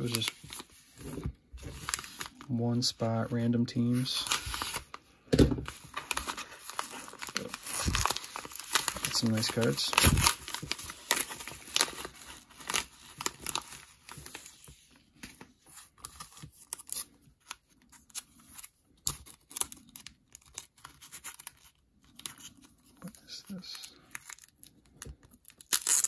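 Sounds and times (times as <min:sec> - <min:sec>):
cards in plastic sleeves handled: 0:00.0 - 0:05.1, 0:05.7 - 0:26.0.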